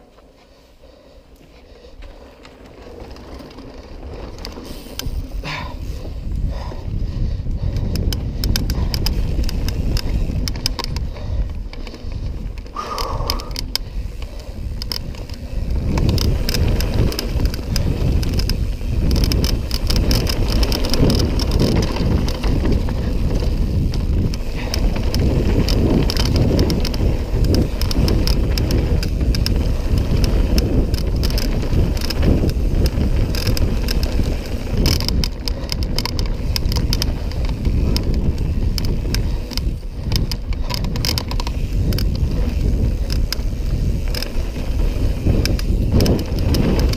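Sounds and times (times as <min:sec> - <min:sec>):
bike rattling and clicking: 0:00.0 - 0:46.9
bike tyres rumbling on gravel: 0:00.0 - 0:46.9
wind on microphone: 0:02.8 - 0:46.9.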